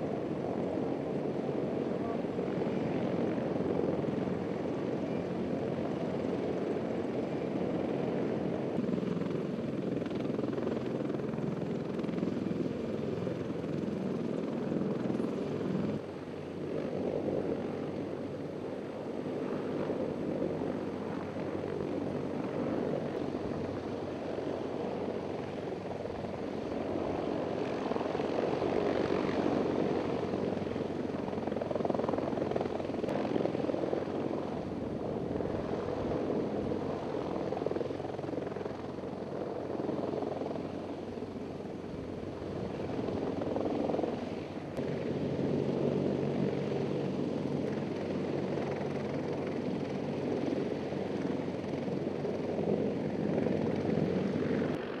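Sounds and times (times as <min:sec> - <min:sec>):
helicopter rotor and turbine noise: 0:00.0 - 0:55.0.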